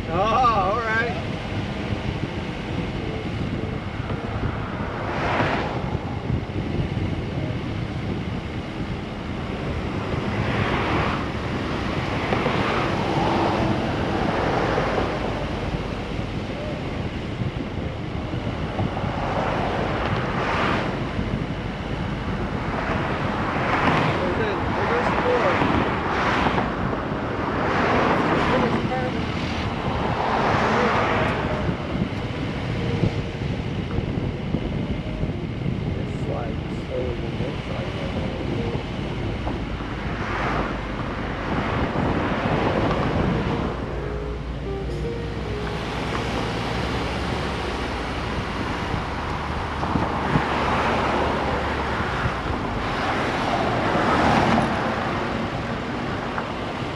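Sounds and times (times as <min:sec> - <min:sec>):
road and engine rumble: 0:00.0 - 0:56.9
wind buffeting microphone: 0:00.0 - 0:56.9.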